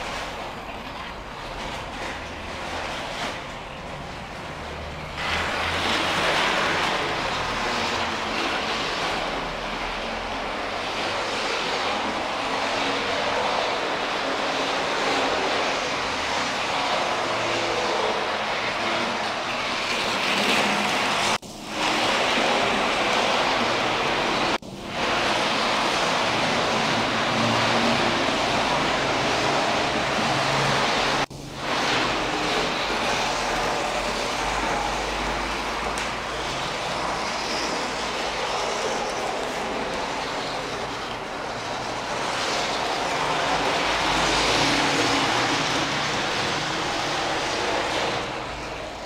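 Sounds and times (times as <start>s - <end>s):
model train wheels on rails: 0.0s - 49.0s.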